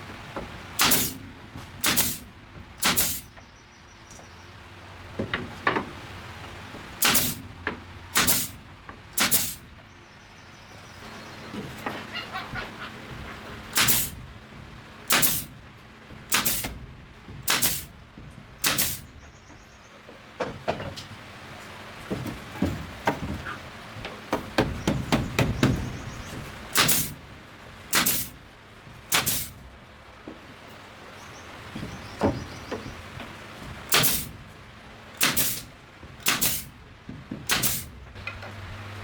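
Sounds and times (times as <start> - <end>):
knocking and clatter: 5.1 - 9.8, 11.5 - 30.9, 31.6 - 39.0.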